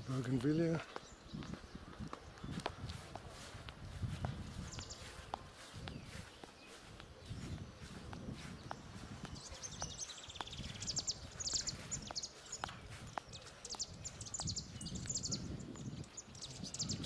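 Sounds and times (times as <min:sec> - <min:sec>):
birds singing fast trills: 0:00.0 - 0:17.0.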